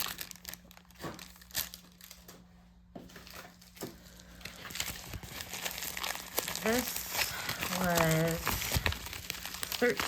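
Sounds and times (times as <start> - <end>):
plastic packaging crinkling: 0.0 - 2.5, 3.1 - 10.0.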